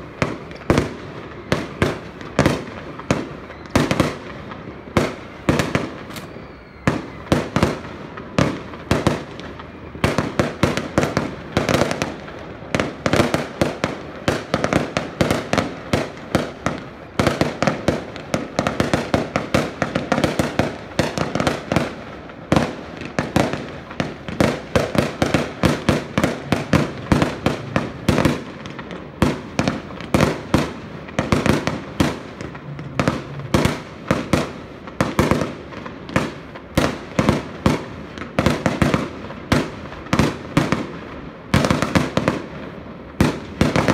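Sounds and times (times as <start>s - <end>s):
firework bangs: 0.0s - 43.9s.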